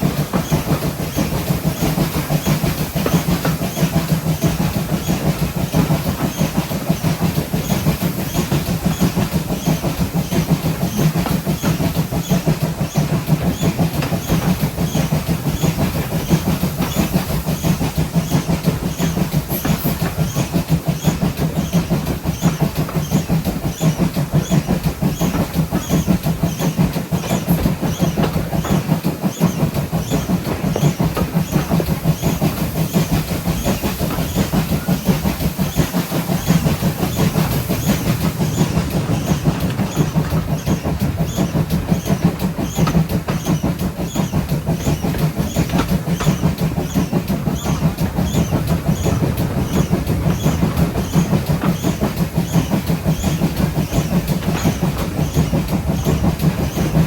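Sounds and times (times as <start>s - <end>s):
steam train running: 0.0s - 57.0s.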